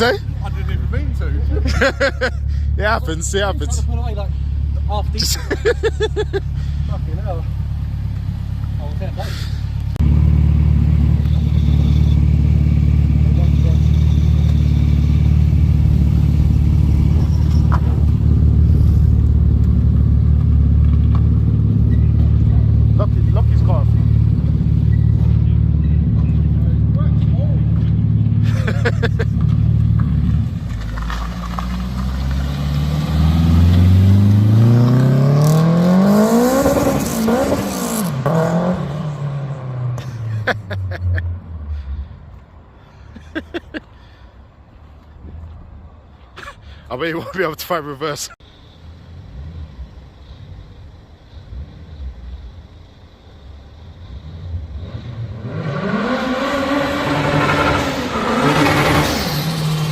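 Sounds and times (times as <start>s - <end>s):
car engine accelerating: 0.0s - 42.1s, 49.1s - 59.9s.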